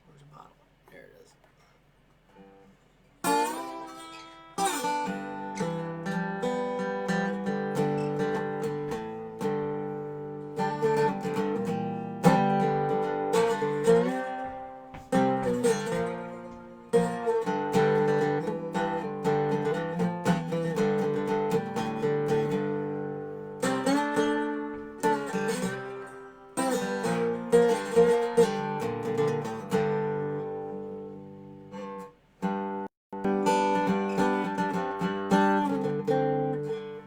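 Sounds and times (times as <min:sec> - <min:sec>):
slide guitar strumming blues chords: 0:03.2 - 0:37.0.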